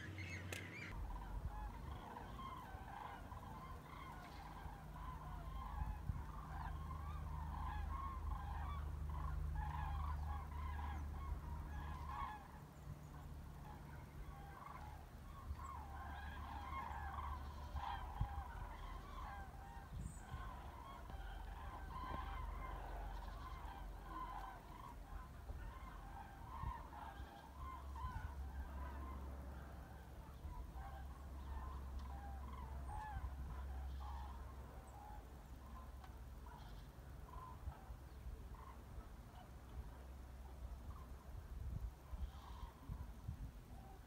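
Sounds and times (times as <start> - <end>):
cranes trumpeting calls: 0.0 - 39.8, 42.0 - 43.2
low steady hum: 0.0 - 44.0.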